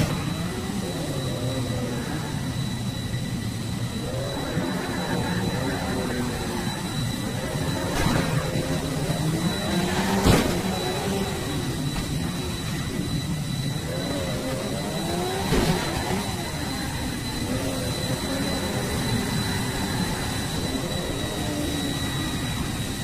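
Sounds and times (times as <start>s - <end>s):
jet engine wavering: 0.0s - 23.0s.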